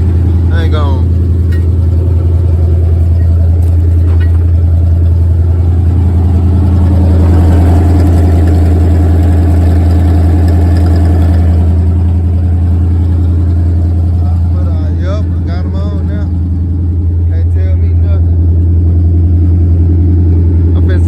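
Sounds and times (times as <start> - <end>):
truck engine deep exhaust: 0.0 - 21.0.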